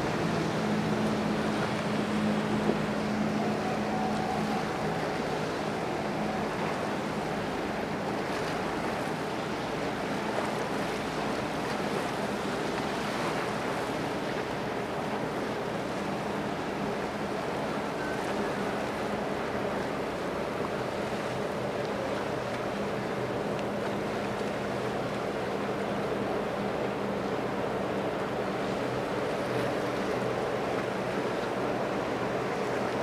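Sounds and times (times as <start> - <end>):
ship machinery hum: 0.0 - 33.0
water noise: 0.0 - 33.0
wind: 0.0 - 33.0.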